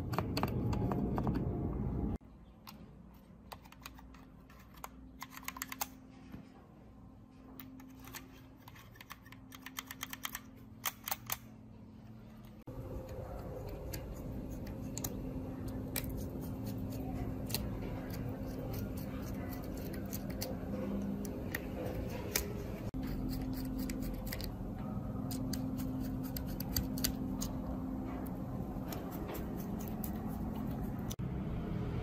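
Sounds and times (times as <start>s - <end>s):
steady hum: 4.8s - 32.0s.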